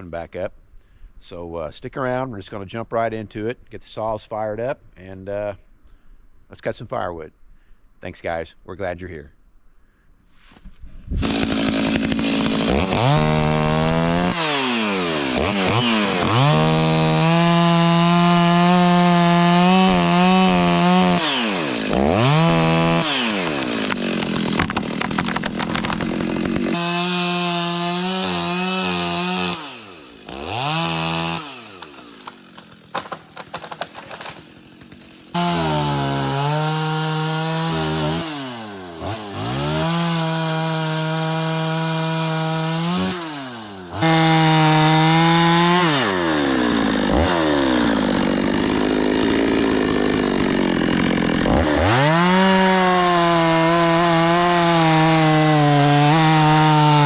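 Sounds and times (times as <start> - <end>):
chainsaw cutting wood: 11.0 - 57.0.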